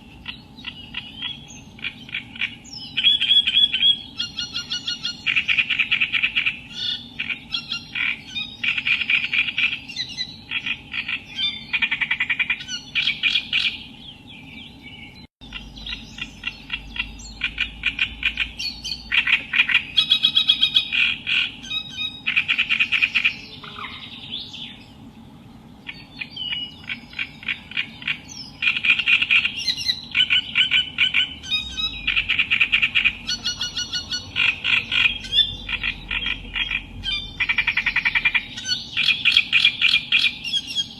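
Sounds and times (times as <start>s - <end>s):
bird singing fast repeated notes: 0.0s - 40.9s.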